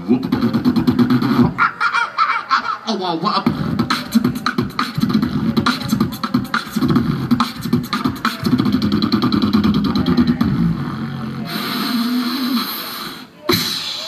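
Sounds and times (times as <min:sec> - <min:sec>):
man beatboxing into microphone: 0:00.0 - 0:01.8, 0:02.8 - 0:14.0.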